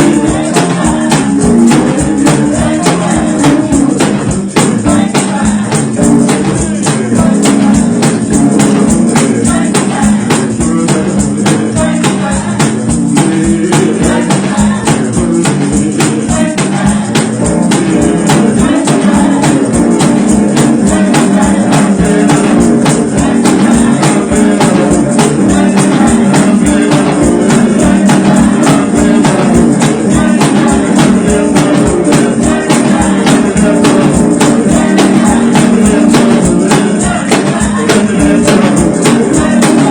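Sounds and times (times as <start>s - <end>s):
gospel singing: 0.0s - 39.9s
tambourine beat: 0.0s - 39.9s.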